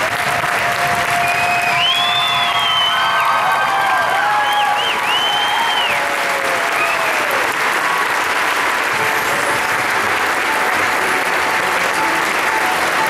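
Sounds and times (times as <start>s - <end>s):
audience applauding: 0.0s - 13.0s
audience cheering: 0.0s - 13.0s.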